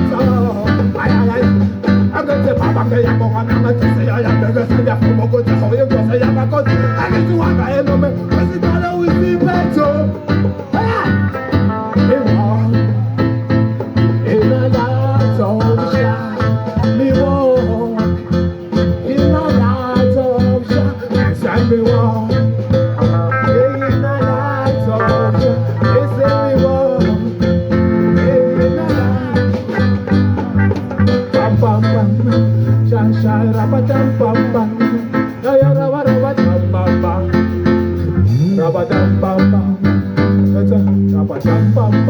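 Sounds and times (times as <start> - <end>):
held bass notes: 0.0 - 42.0
plucked guitar: 0.0 - 42.0.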